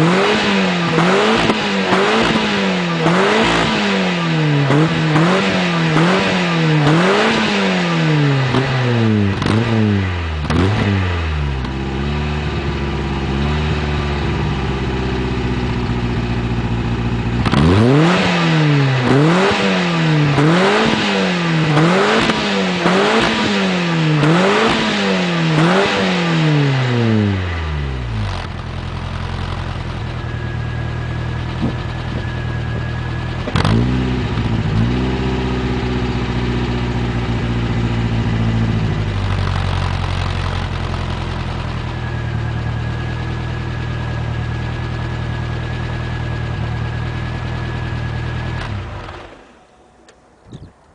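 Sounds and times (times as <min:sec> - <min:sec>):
car engine revving and idling: 0:00.0 - 0:50.2.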